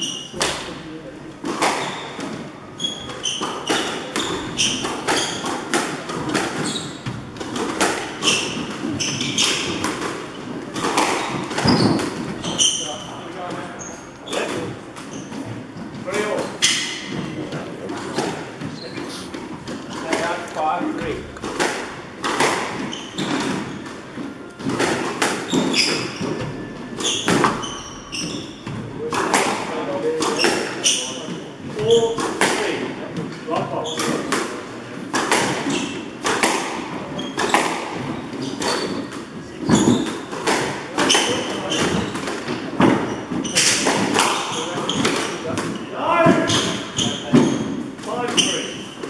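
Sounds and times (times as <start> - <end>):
shoes squeaking on wooden floor: 0.0 - 0.6, 1.4 - 34.3, 35.2 - 49.0
squash ball hitting walls: 0.0 - 13.7, 19.3 - 49.0.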